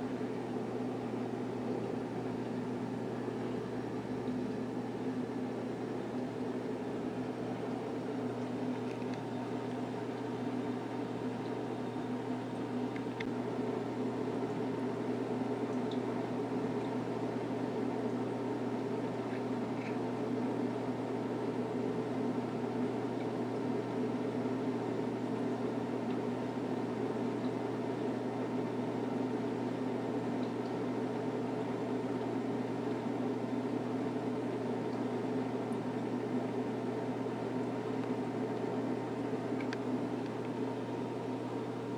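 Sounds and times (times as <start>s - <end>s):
aquarium pumps humming: 0.0s - 41.9s.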